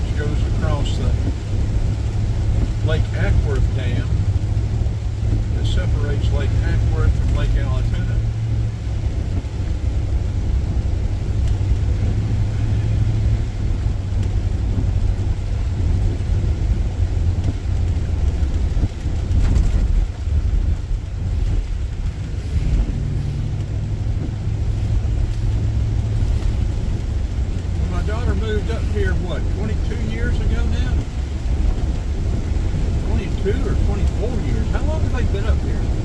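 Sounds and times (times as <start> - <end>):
car engine rumble in cabin: 0.0 - 36.0
tyre noise on wet road: 0.0 - 36.0.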